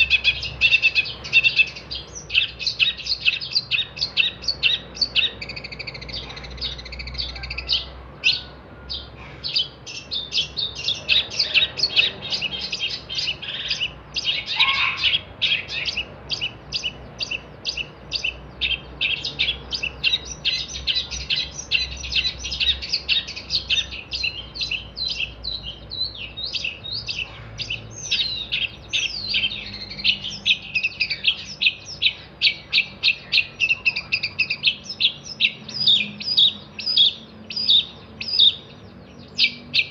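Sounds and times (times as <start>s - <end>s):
shrike chattering song: 0.0s - 39.9s.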